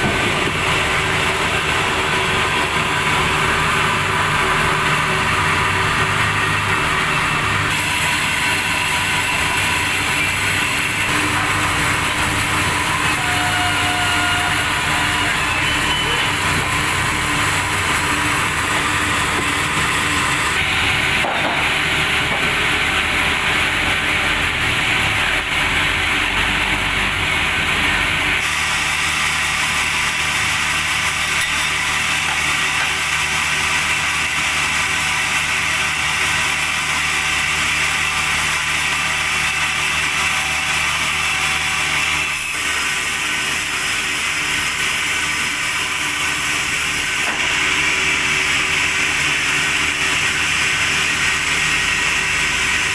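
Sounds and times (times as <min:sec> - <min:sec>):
sawmill saw cutting timber: 0:00.0 - 0:52.9.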